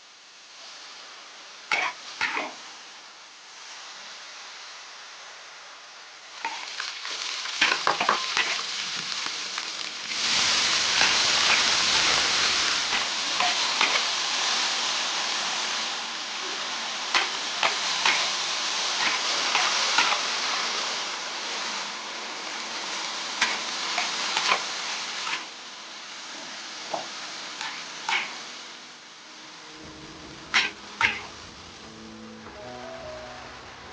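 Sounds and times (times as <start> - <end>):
food sizzling in oil: 0.1 - 3.8, 6.2 - 33.9.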